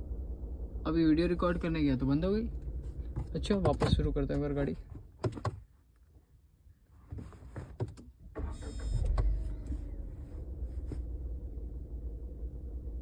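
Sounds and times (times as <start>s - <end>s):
car engine starting and idling: 0.0s - 5.7s, 7.8s - 13.0s.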